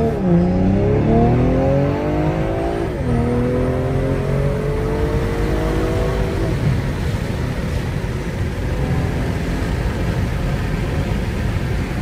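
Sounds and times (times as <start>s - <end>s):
car engine accelerating: 0.0s - 12.0s
road rumble: 0.0s - 12.0s.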